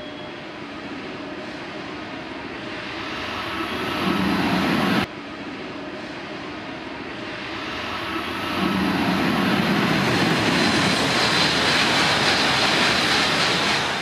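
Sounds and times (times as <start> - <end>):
train wheels rumbling and hissing: 0.0 - 14.0.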